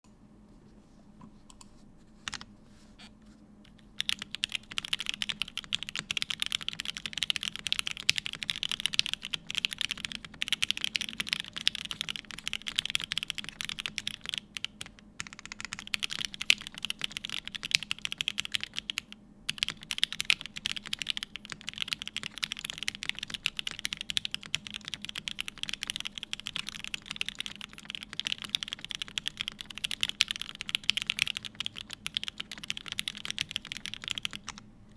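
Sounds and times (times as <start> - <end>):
fast typing on mechanical keyboard: 3.7 - 34.6.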